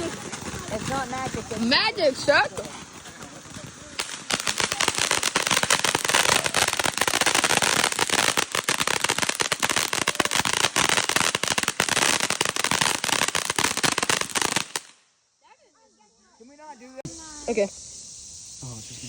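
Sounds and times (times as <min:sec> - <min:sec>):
firework crackling: 0:00.0 - 0:17.6.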